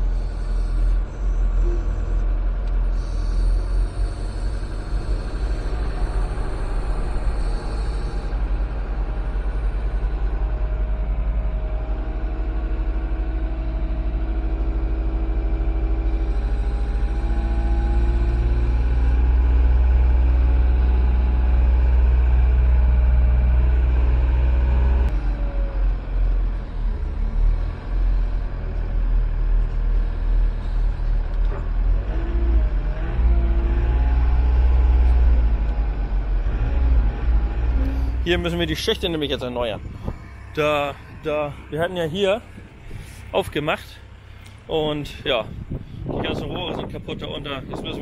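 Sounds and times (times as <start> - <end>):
diesel engine running: 0.0 - 48.0
steady whine: 0.0 - 48.0.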